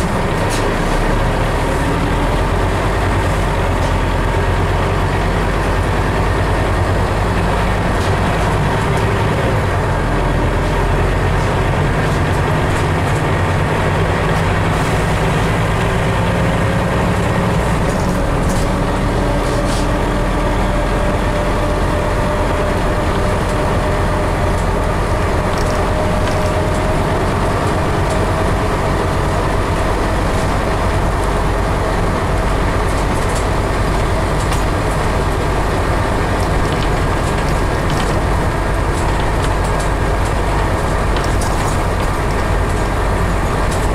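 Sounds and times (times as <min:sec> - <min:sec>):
bus engine hum: 0:00.0 - 0:43.9
road noise: 0:00.0 - 0:43.9.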